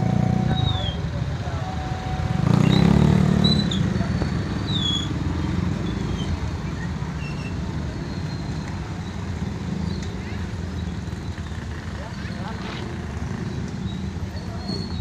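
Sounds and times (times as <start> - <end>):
traffic engine rumble: 0.0 - 15.0.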